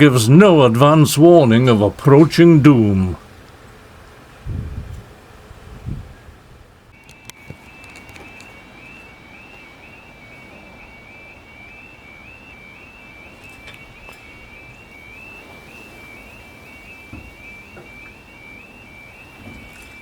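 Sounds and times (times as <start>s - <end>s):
level crossing alarm warbling: 0.0s - 3.2s, 7.0s - 20.0s.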